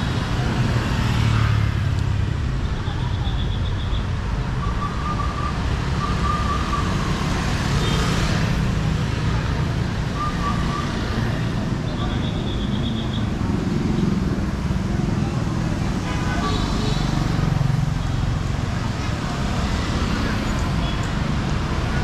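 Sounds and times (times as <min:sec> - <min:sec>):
voices: 0:00.0 - 0:07.2, 0:08.8 - 0:22.0
motorbike and car traffic: 0:00.0 - 0:22.0.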